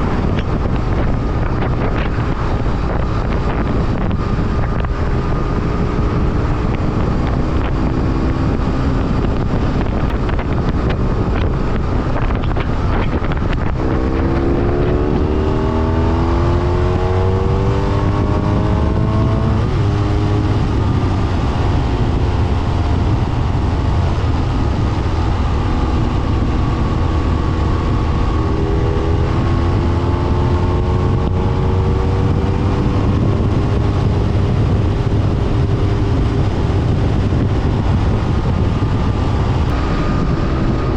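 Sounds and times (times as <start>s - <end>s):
motorcycle engine under way: 0.0s - 40.9s
wind rush on microphone: 0.0s - 40.9s.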